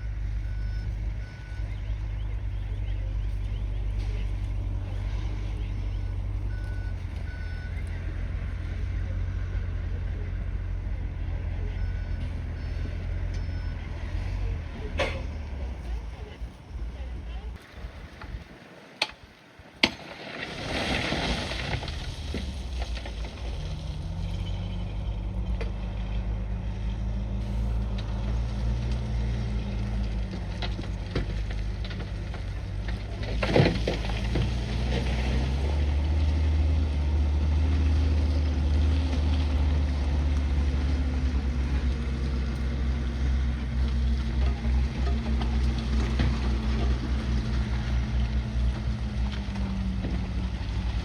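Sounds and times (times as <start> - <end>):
bulldozer engine under load: 0.0 - 51.0.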